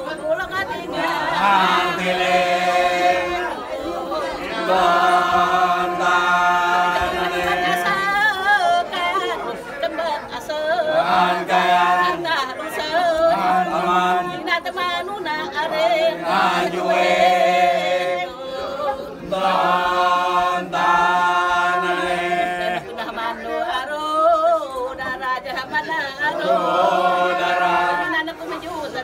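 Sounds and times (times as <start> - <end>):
group of people singing unaccompanied: 0.0 - 29.0.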